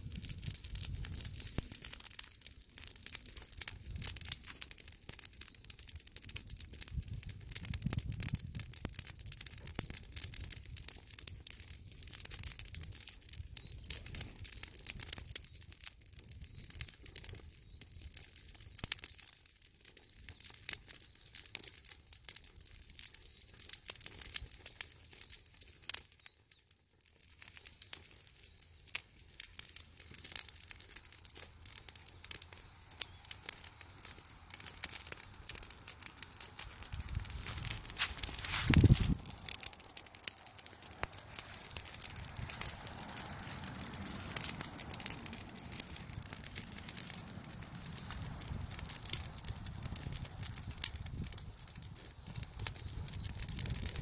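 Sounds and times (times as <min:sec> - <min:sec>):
dry leaves burning and crackling: 0:00.0 - 0:54.0.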